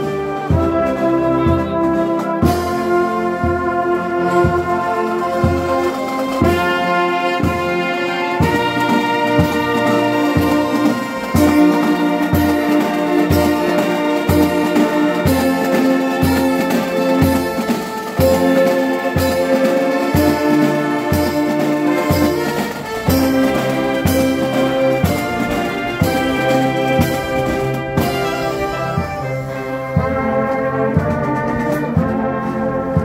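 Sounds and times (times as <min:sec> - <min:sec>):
steady low drum beat: 0:00.0 - 0:32.3
marching band playing slow tune: 0:00.0 - 0:33.0.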